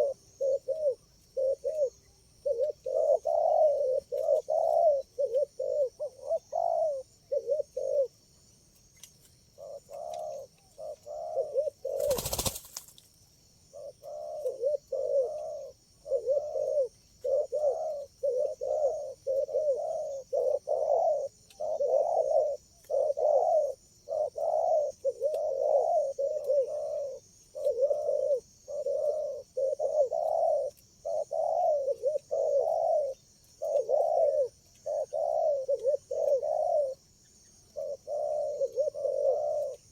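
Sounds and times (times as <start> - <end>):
doves cooing: 0.0 - 8.3, 9.6 - 12.9, 13.7 - 39.9.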